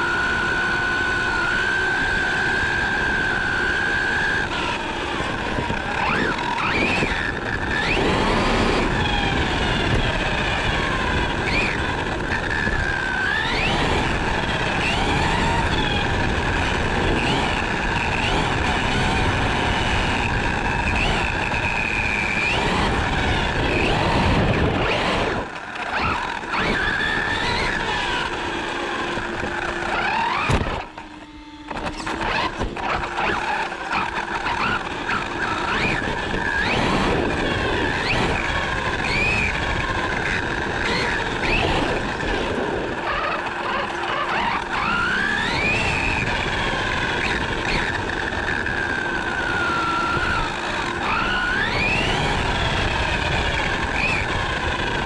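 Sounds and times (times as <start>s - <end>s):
rc car motor whining: 0.0s - 55.0s
tyre and road noise: 0.0s - 55.0s.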